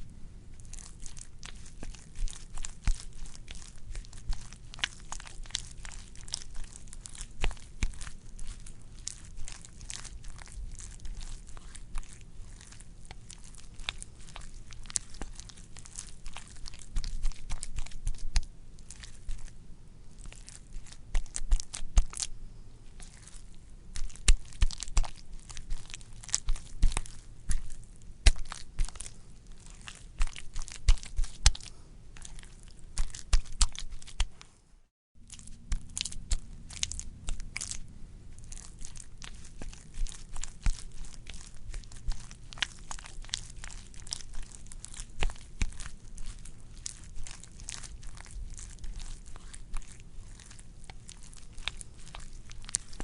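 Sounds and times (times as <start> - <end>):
wet squelching with crackles: 0.0 - 34.5, 35.2 - 53.0.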